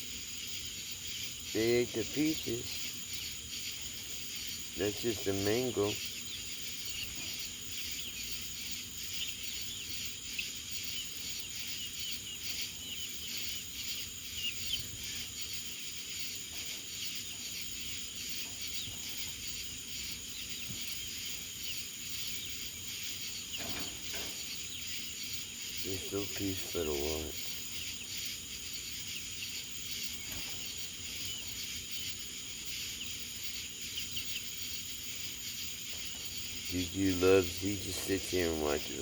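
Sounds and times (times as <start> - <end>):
faint bird chirps: 0.0 - 39.0
insect chorus: 0.0 - 39.0.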